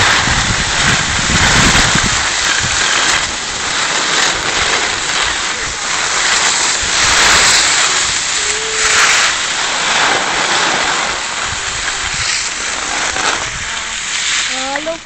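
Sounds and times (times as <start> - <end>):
skis scraping on snow: 0.0 - 15.0
wind buffeting microphone: 0.0 - 15.0.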